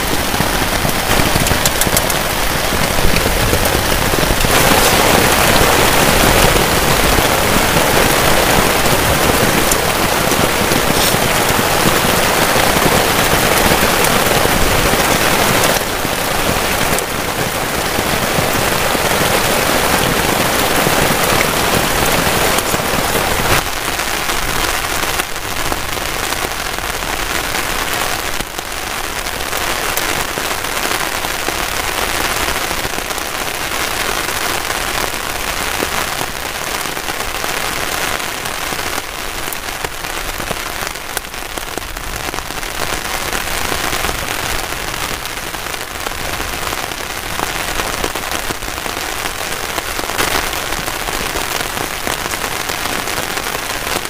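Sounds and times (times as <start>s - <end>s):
heavy rain on a tarp: 0.0s - 54.0s.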